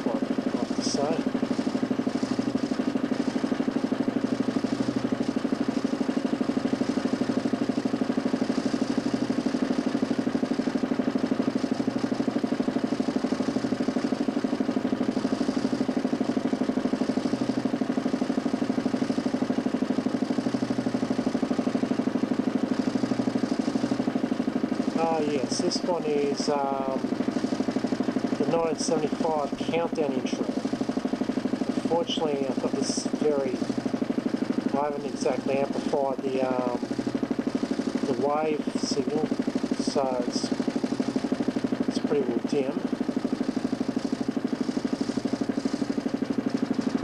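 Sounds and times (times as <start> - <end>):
motor spinning disc pulsing hum: 0.0 - 47.0.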